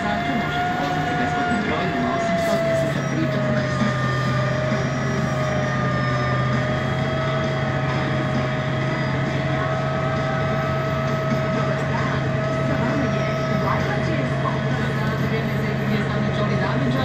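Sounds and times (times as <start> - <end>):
bus engine running: 0.0 - 17.0
road noise: 0.0 - 17.0.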